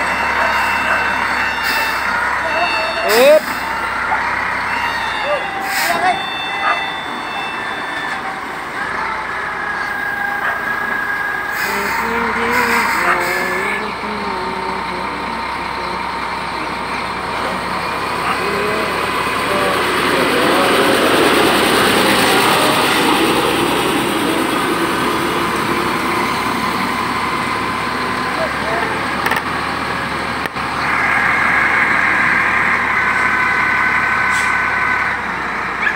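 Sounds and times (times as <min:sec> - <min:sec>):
diesel truck engines running: 0:00.0 - 0:35.9.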